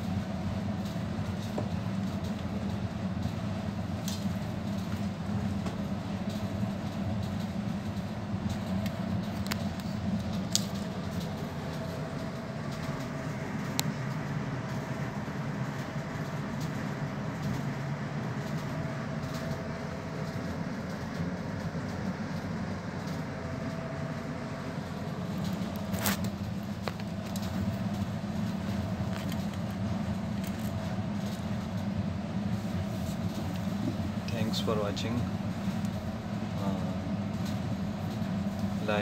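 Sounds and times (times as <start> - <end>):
low rumbling hum: 0.0 - 39.0.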